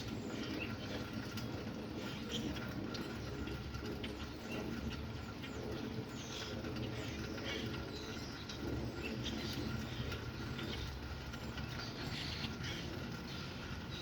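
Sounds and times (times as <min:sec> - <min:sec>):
birds chirping: 0:00.0 - 0:14.0
rain falling: 0:00.0 - 0:14.0.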